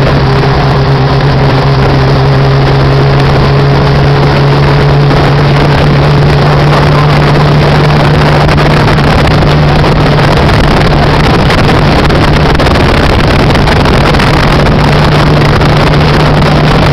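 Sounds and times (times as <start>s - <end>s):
motorcycle engine running steadily: 0.0s - 16.9s.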